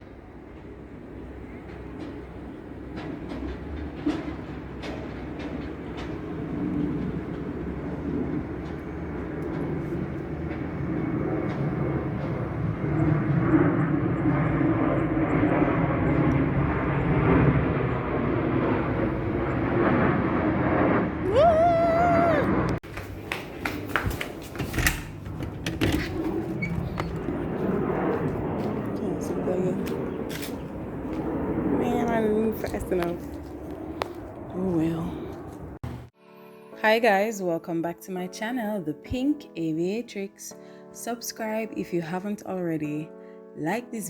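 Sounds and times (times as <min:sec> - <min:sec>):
aircraft engine rumble: 0:00.0 - 0:36.2.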